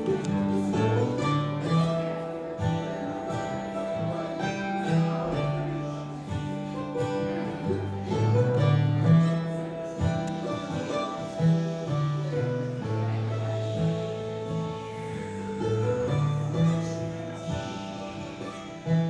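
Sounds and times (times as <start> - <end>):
bluegrass acoustic guitar: 0.0 - 19.0.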